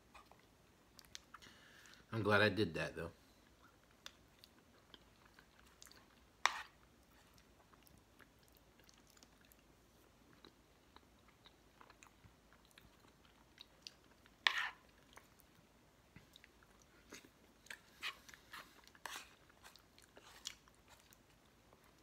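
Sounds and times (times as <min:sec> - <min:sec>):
person chewing wetly: 0:00.1 - 0:02.1, 0:03.5 - 0:22.0.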